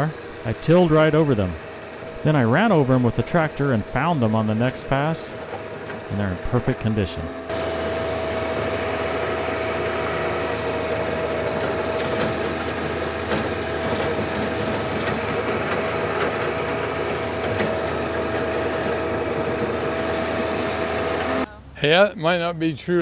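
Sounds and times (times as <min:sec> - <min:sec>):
rotary tiller churning soil: 0:00.0 - 0:21.5
tractor diesel engine running: 0:00.0 - 0:21.7
steady high whine: 0:00.0 - 0:22.4.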